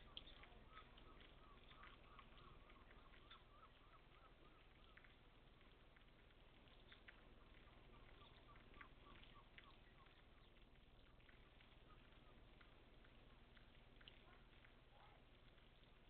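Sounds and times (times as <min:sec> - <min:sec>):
faint bird chirping: 0:00.0 - 0:16.0
light rain pattering: 0:00.0 - 0:16.0.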